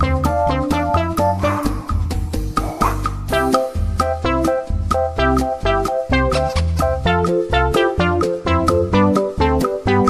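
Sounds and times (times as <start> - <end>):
children's background music: 0.0 - 10.0.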